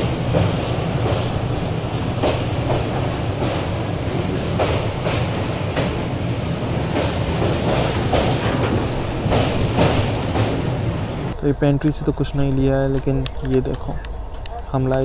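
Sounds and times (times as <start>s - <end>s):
train rumbling over bridge: 0.0s - 15.0s.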